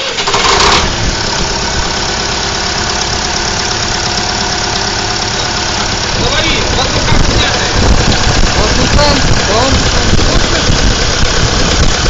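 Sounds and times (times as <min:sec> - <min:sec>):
car engine idling: 0:00.0 - 0:12.0
engine knock: 0:00.1 - 0:12.0.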